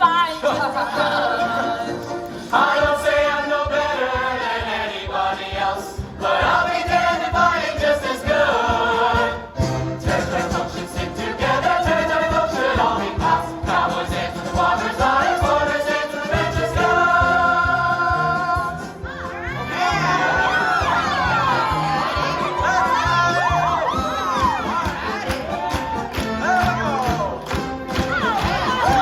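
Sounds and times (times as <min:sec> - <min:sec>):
chorus singing: 0:00.0 - 0:29.0
instrumental accompaniment: 0:00.0 - 0:29.0.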